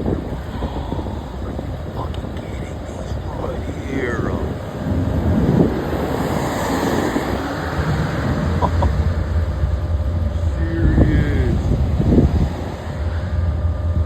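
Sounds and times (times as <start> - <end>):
low rumble with rushing noise: 0.0 - 14.0.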